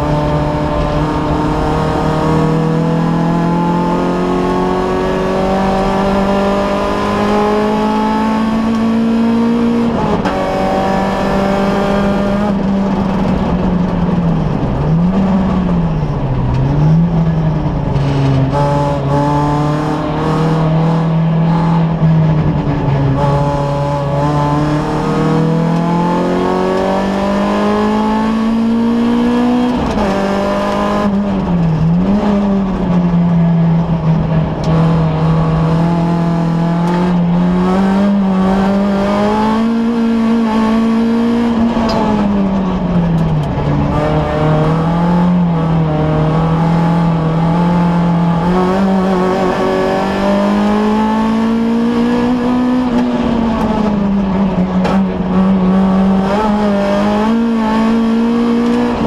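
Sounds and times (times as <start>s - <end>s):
race car engine revving high: 0.0s - 59.0s.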